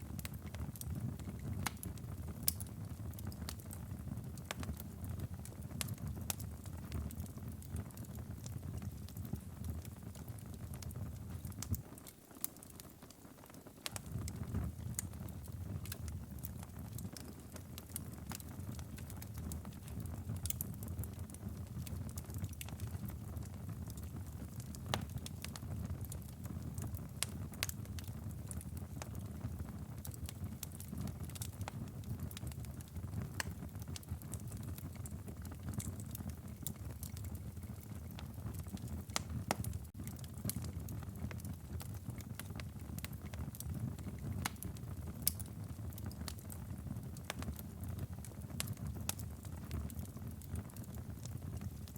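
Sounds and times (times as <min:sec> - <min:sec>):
rumble of flames: 0:00.0 - 0:13.2, 0:13.8 - 0:51.9
wood fire crackling: 0:00.0 - 0:51.9.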